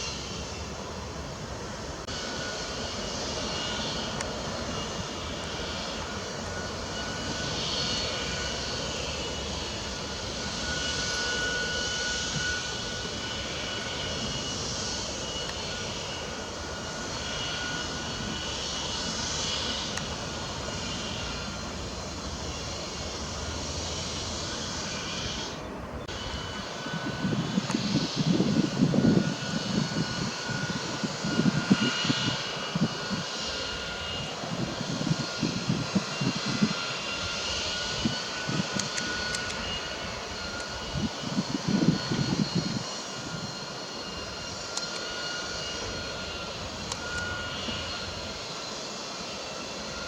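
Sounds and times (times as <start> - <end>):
droning engine with whine: 0.0 - 50.0.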